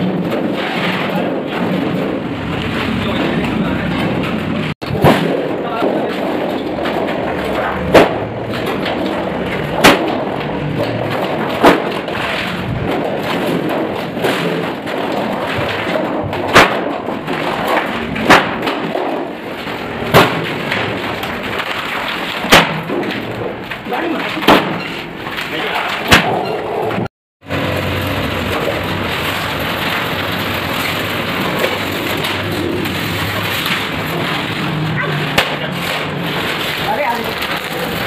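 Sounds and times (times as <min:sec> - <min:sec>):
sharp knocks: 0:00.0 - 0:38.0.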